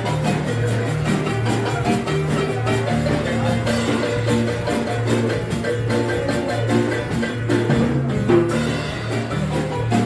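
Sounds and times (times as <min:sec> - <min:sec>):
latin dance music: 0:00.0 - 0:10.0.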